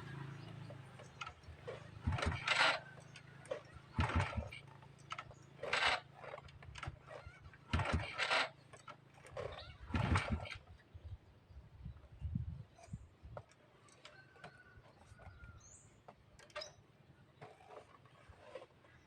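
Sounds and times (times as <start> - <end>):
motorcycle kickstart chuffing: 0.0 - 11.0, 12.7 - 19.0.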